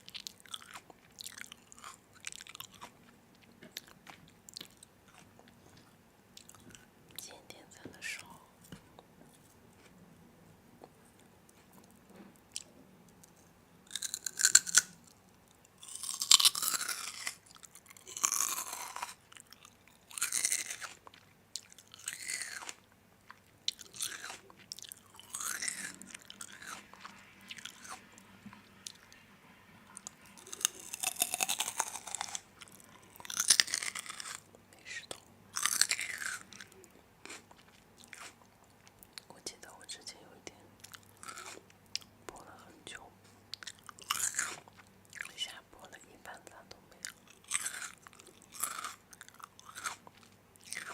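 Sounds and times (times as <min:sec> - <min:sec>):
crunchy food being chewed: 0:00.0 - 0:06.9, 0:10.8 - 0:29.2, 0:29.9 - 0:45.6, 0:46.3 - 0:50.9.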